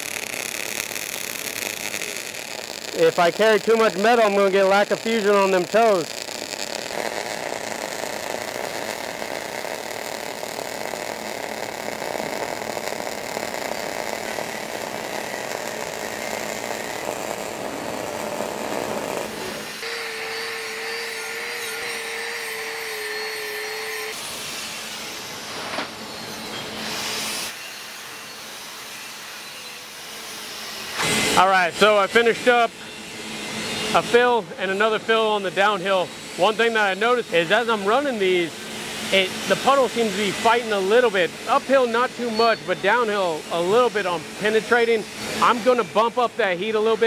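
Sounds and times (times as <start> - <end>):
welding arc crackling: 0.0 - 24.2, 33.4 - 47.0.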